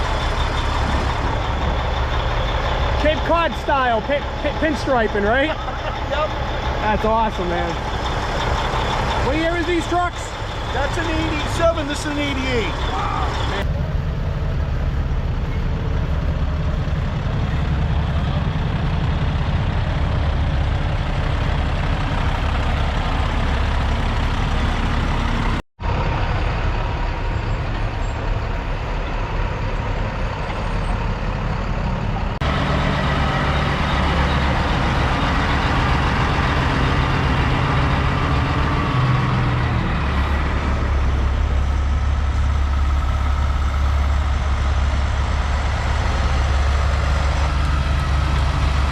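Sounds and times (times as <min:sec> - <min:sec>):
truck engines idling: 0:00.0 - 0:48.9.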